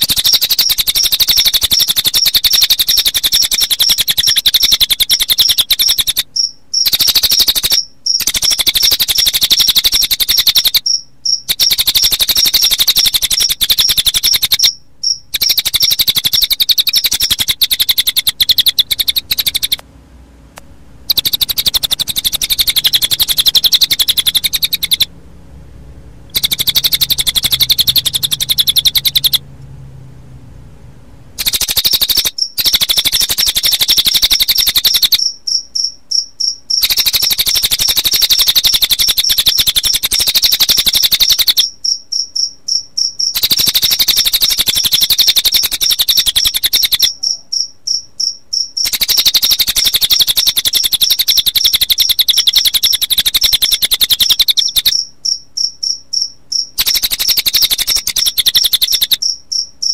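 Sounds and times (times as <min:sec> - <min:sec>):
bird high trilling song: 0:00.0 - 0:19.8, 0:21.0 - 0:25.1, 0:26.3 - 0:29.4, 0:31.4 - 0:59.9
cricket chirping: 0:00.0 - 0:19.8, 0:21.0 - 0:25.1, 0:26.3 - 0:29.5, 0:31.4 - 0:59.9.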